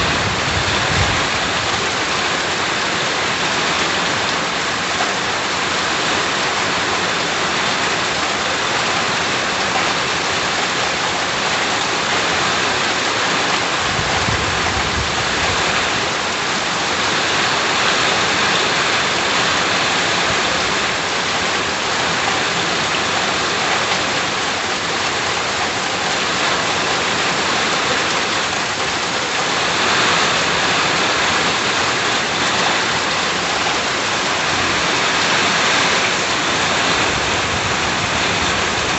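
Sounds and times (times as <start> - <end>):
heavy rain hitting surfaces: 0.0 - 38.9.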